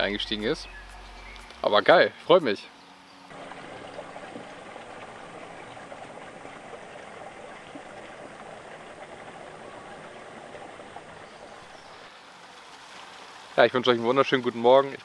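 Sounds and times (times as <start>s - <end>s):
faint low hum: 0.0s - 12.9s.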